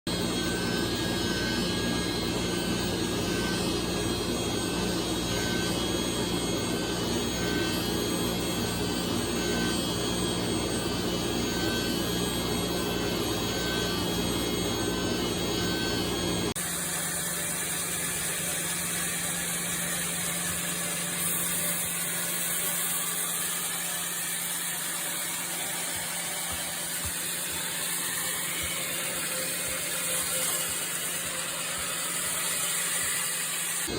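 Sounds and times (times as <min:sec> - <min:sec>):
machine hum with high hiss: 0:00.1 - 0:33.9
sawmill machinery humming: 0:00.1 - 0:33.9.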